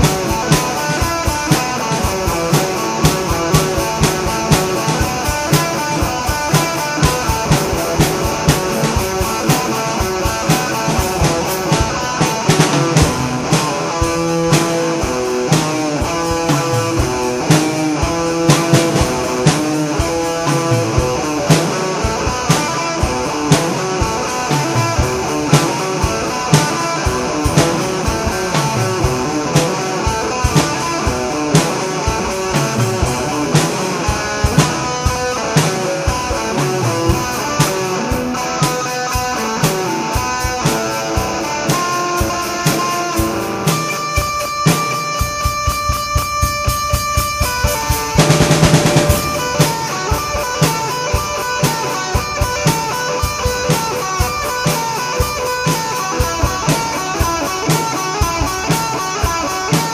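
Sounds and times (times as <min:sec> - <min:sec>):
drum kit beat: 0:00.0 - 0:59.9
rock guitar: 0:00.0 - 0:59.9.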